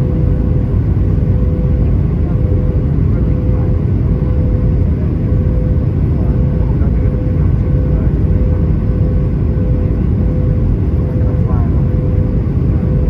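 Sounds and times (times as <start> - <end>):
airplane cabin rumble: 0.0 - 13.0
constant hum: 0.0 - 13.0.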